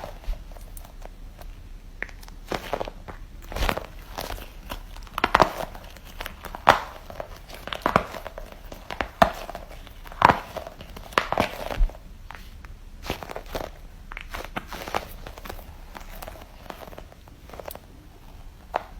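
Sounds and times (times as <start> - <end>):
toy balls making crackly clicks: 0.0 - 18.9.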